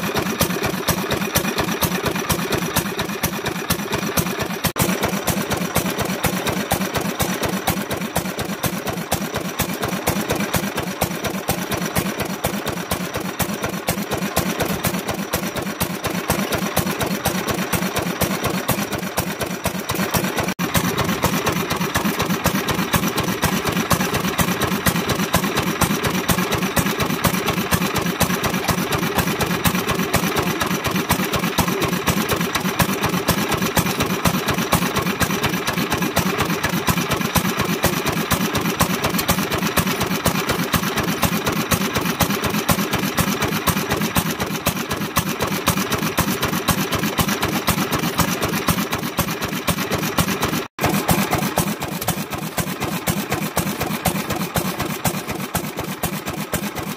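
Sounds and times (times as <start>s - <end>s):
stationary engine running: 0.0s - 56.9s.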